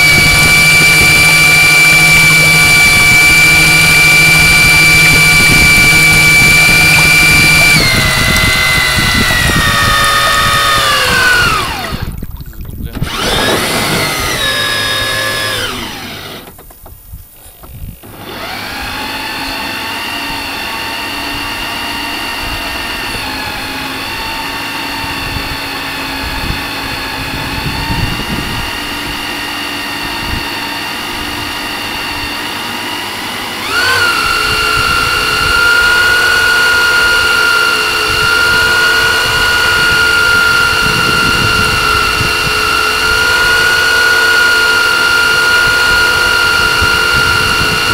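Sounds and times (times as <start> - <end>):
small motor whining: 0.0 - 47.9.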